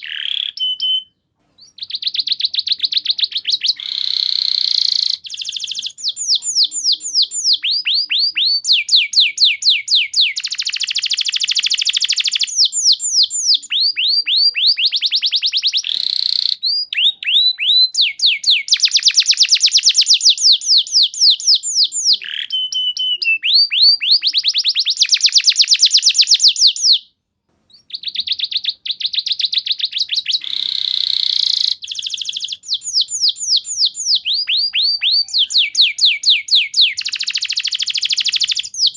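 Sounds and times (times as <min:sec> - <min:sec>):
canary singing trills: 0:00.0 - 0:27.1, 0:27.7 - 0:38.9.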